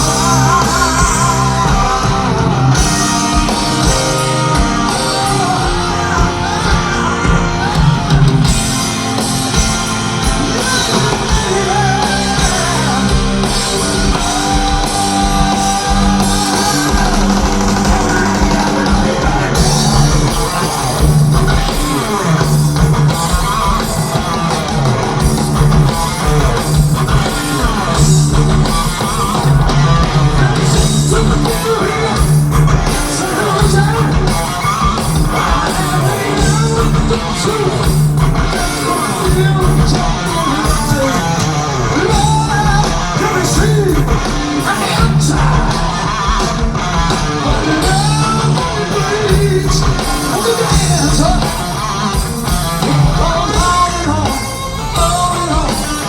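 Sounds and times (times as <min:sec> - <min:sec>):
distorted electric guitar: 0:00.0 - 0:56.0
heavy metal band playing live: 0:00.0 - 0:56.0.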